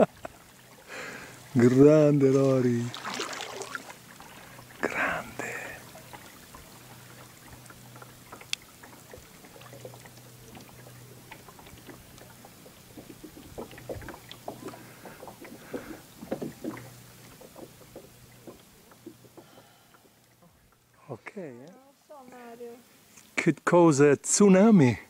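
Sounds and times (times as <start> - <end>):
paddle blades dipping into water: 0.1 - 21.0
water dripping and splashing: 0.2 - 21.0.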